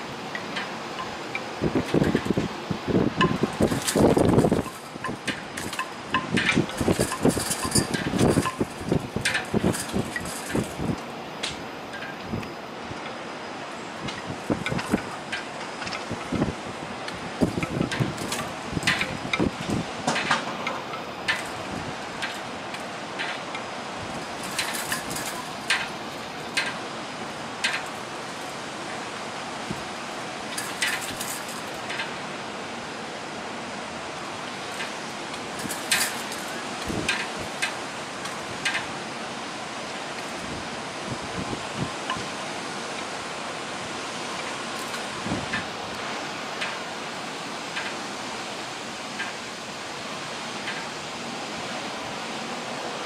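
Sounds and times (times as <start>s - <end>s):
hurricane wind and rain: 0.0s - 53.0s.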